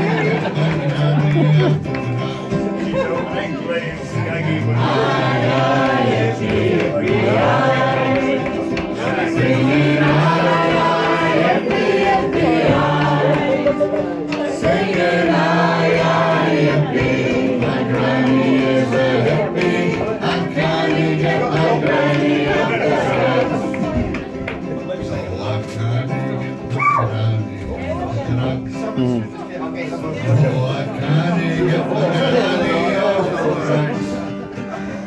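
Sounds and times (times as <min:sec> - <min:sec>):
voices singing along: 0:00.0 - 0:24.8, 0:29.9 - 0:35.0.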